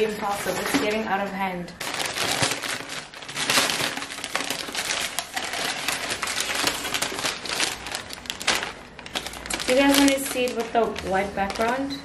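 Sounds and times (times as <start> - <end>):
packing paper rustling: 1.8 - 12.0.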